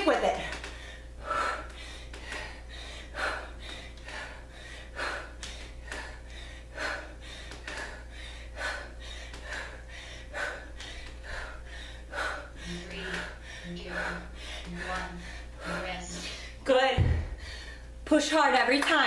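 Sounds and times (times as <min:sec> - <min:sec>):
low hum: 0:00.0 - 0:18.6
woman breathing hard: 0:00.5 - 0:18.0.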